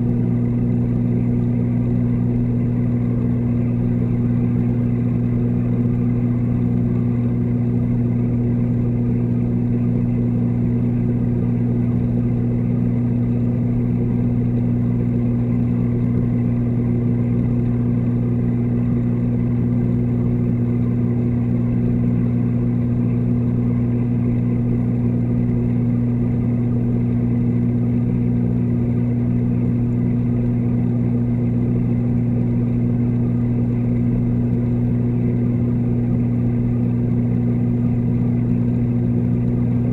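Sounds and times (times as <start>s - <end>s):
water pumps humming underwater: 0.0s - 39.9s.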